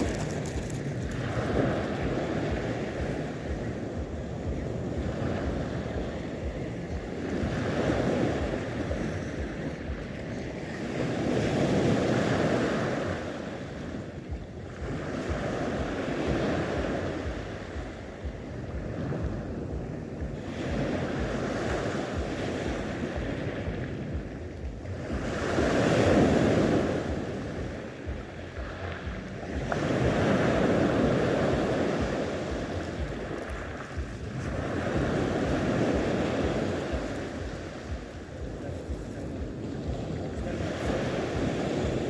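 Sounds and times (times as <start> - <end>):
sea waves breaking: 0.0 - 42.0
wind on microphone: 0.0 - 42.0.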